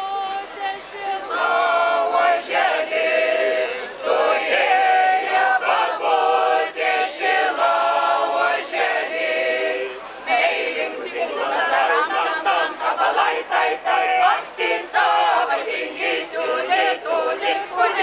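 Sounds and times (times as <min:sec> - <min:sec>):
unaccompanied group singing: 0:00.0 - 0:18.0.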